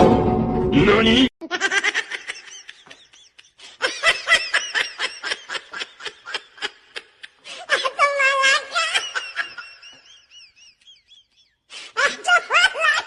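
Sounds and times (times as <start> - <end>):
high-pitched laughter: 1.4 - 13.0.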